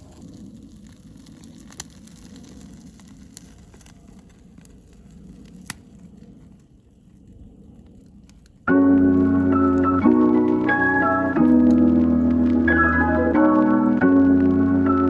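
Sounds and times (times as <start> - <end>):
campfire crackling: 0.0 - 15.0
fire popping: 0.0 - 15.0.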